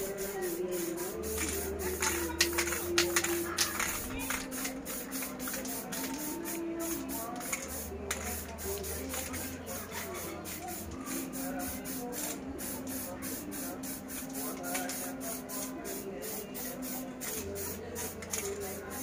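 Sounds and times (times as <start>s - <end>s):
spray-paint can hissing: 0.0s - 19.0s.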